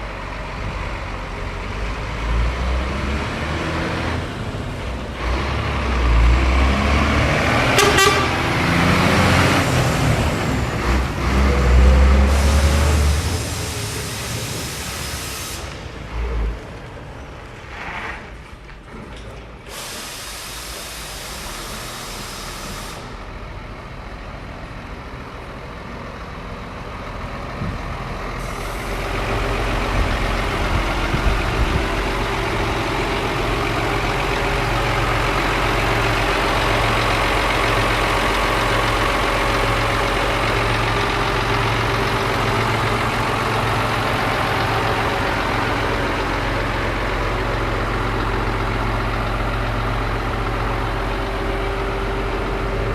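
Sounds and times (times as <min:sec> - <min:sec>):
diesel lorry engine running: 0:00.0 - 0:52.9.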